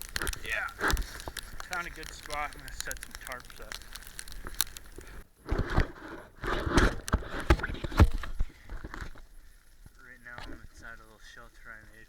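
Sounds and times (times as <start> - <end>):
muffled scrapes and thumps: 0.0 - 11.1.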